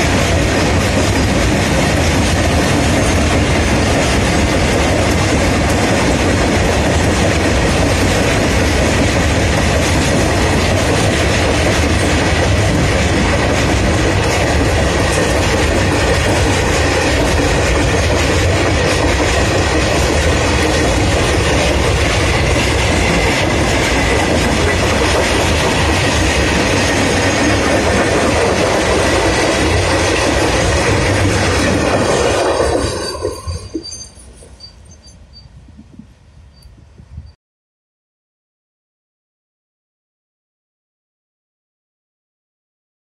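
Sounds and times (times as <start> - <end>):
train wheels clattering over rails: 0.0 - 34.7.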